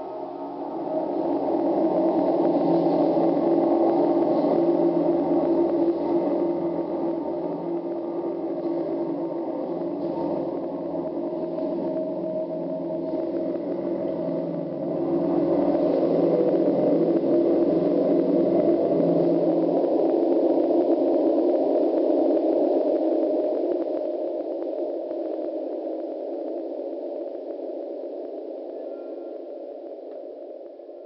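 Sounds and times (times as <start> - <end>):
electronic drone: 0.0 - 31.0.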